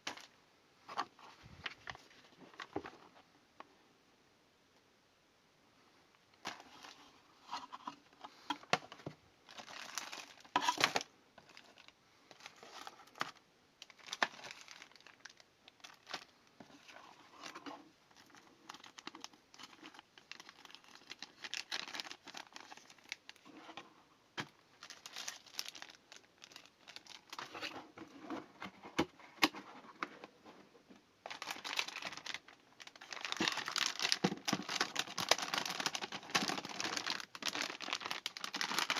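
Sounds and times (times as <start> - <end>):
plastic and cardboard crinkling: 6.4 - 38.9.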